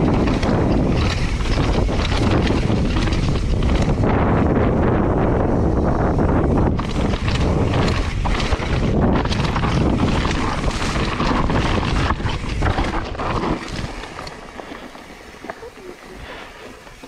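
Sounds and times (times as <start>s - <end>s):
bike tyres crunching on dirt trail: 0.0s - 17.0s
wind buffeting microphone: 0.0s - 17.0s.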